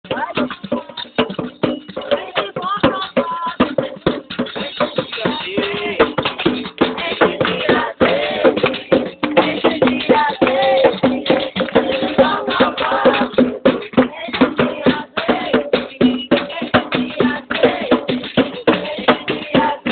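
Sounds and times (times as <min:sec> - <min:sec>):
singing voices: 0:00.0 - 0:19.9
steady percussion rhythm: 0:00.0 - 0:19.9.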